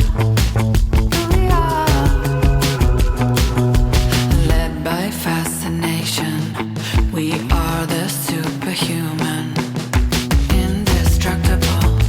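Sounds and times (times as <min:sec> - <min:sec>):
pop song with steady beat: 0:00.0 - 0:12.0.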